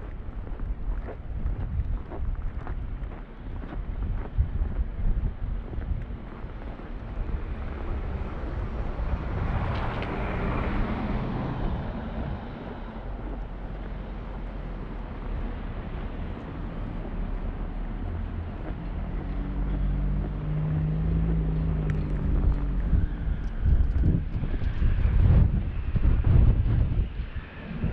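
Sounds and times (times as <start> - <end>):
traffic rumble: 0.0 - 27.9
wind: 0.0 - 27.9.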